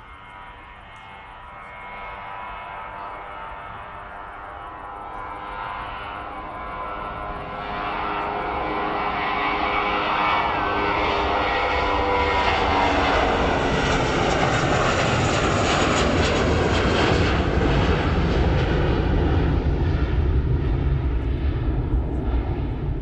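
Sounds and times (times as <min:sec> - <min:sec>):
jet airliner engines: 0:00.0 - 0:23.0.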